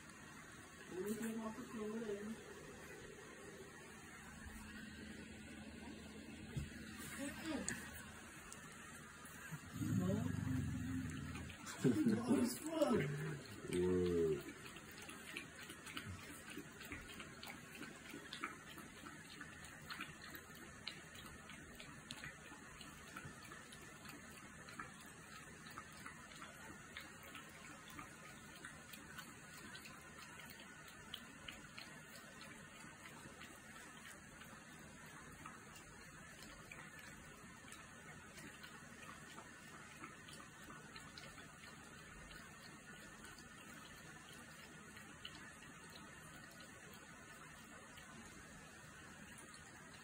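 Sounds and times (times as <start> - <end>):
faint steady hiss: 0.0 - 50.0
puppies suckling wet smacking: 0.0 - 50.0.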